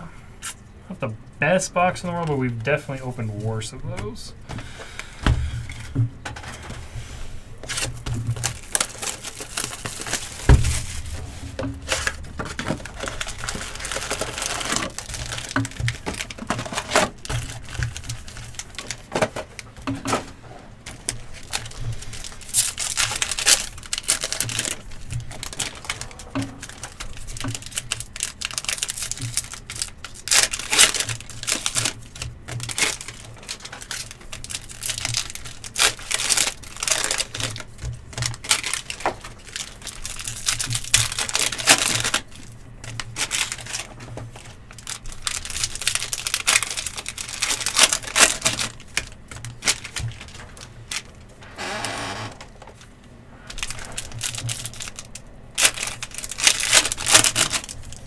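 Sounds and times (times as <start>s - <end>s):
wrappers crinkling: 1.4s - 58.0s.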